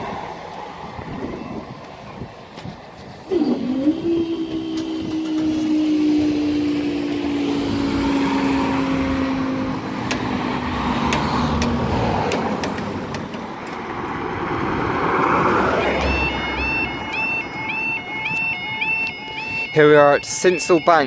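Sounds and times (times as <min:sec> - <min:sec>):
rumble of wheels on rail: 0:00.0 - 0:17.2
train engine drone: 0:00.0 - 0:21.0.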